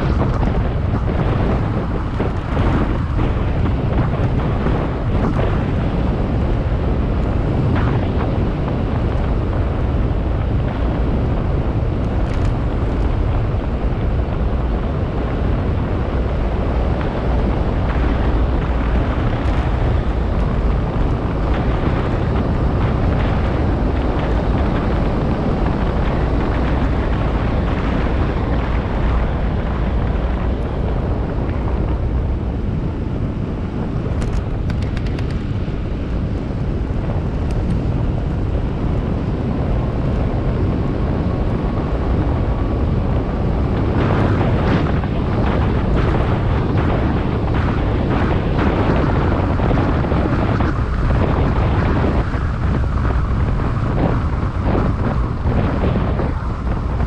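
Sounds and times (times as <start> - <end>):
low rumble: 0.0 - 57.0
wind noise on microphone: 0.0 - 57.0.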